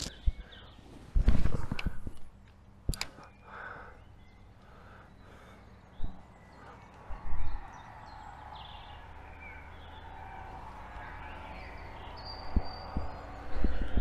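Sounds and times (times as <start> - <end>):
birds chirping and whistling: 0.0 - 2.2, 3.0 - 14.0
low outdoor rumble: 0.0 - 14.0.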